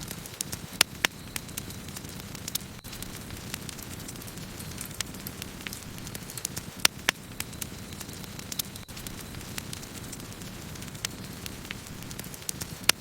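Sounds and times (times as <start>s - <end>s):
burning wood crackling: 0.0s - 13.0s
flames rushing: 0.0s - 13.0s.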